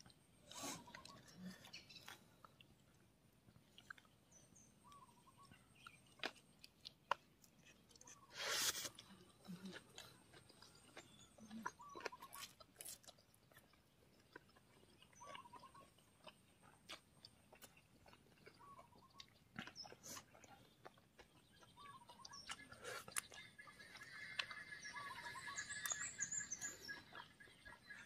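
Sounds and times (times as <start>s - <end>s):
faint chewing noodles: 0.0s - 28.0s.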